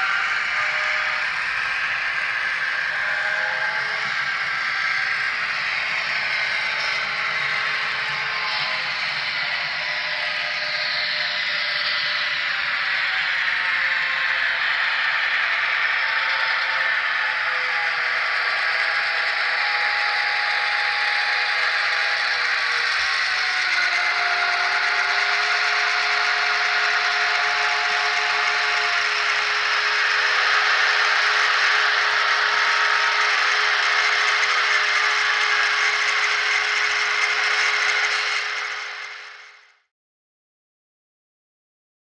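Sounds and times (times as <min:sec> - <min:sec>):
mechanical clatter of train: 0:00.0 - 0:39.6
model train diesel engine sound: 0:00.0 - 0:39.8.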